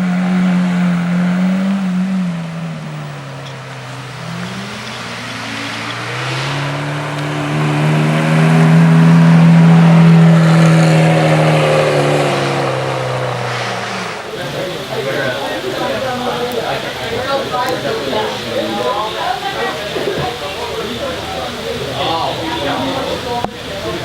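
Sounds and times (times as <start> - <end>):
car engine driving past: 0.0 - 24.0.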